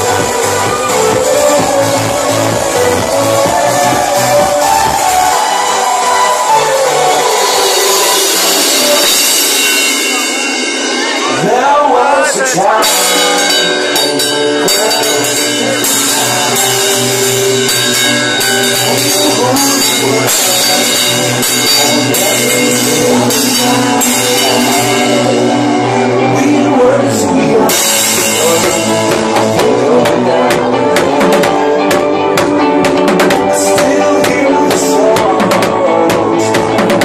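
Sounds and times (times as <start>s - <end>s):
loud house music: 0.0s - 37.0s.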